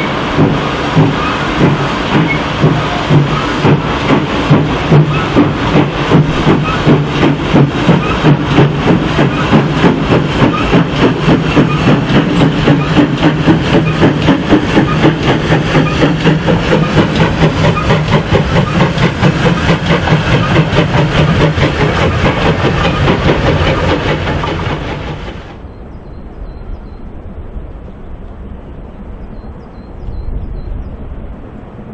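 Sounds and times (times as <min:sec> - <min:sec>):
steam hiss: 0:00.0 - 0:25.6
steam engine exhaust beats: 0:00.0 - 0:25.7.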